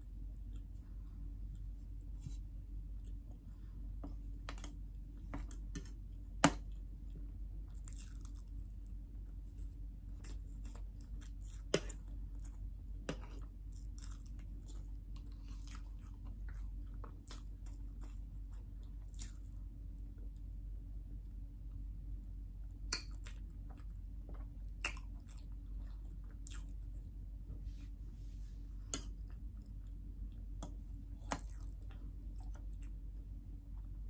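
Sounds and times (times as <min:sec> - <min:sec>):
chewing and wet mouth sounds: 0:00.1 - 0:20.5, 0:22.6 - 0:27.2, 0:28.8 - 0:34.0.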